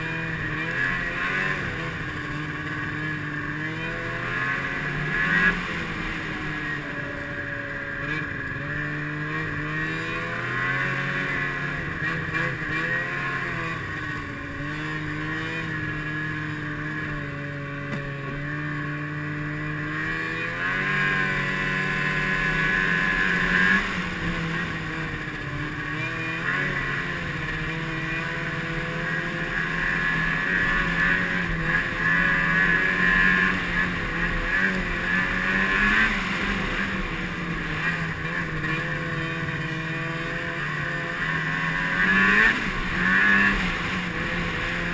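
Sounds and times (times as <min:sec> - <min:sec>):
snowmobile engine revving: 0:00.0 - 0:44.9.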